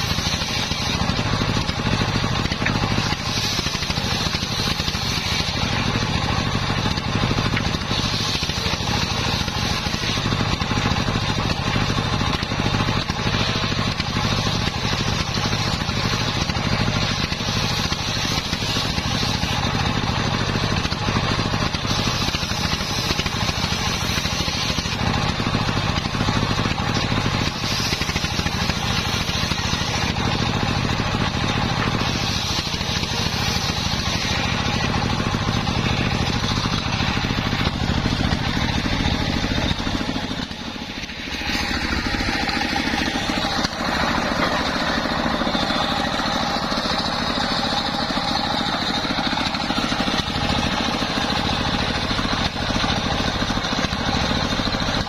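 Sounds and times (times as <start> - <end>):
circular saw ripping boards: 0.0 - 55.0
stationary engine running: 0.0 - 55.0.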